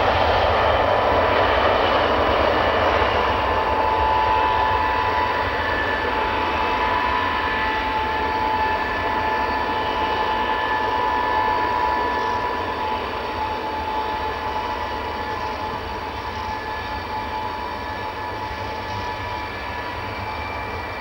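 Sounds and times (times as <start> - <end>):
jet airliner taxiing: 0.0 - 21.0.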